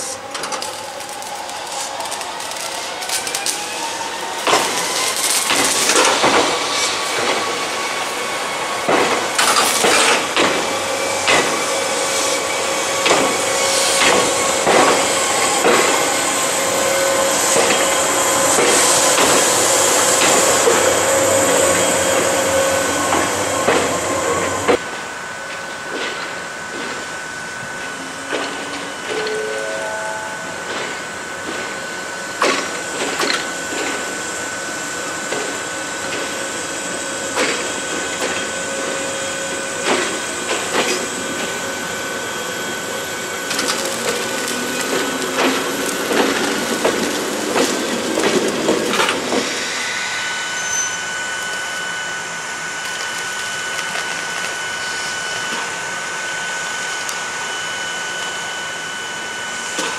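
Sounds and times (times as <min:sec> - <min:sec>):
railcar equipment hum: 0:00.0 - 0:59.9
thin high whine: 0:04.5 - 0:59.9.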